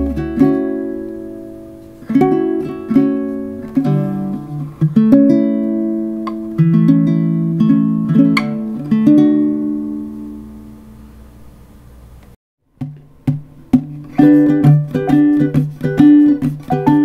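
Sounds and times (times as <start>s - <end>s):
acoustic guitar chords: 0.0s - 11.3s, 12.8s - 17.0s.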